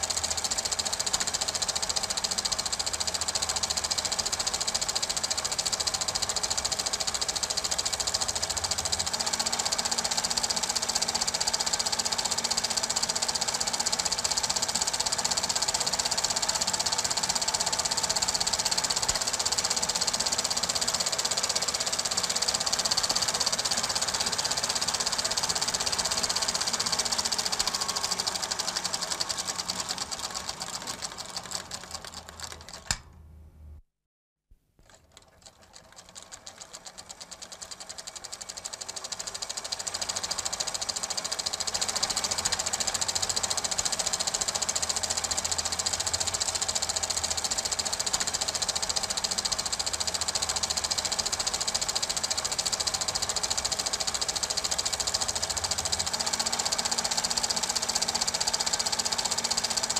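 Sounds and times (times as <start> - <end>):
film projector rattling: 0.0 - 33.1, 34.8 - 59.9.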